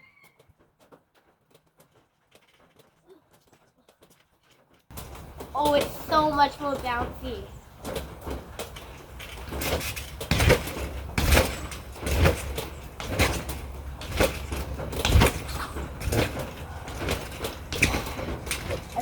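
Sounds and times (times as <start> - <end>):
trampoline mat thudding: 0.0 - 19.0.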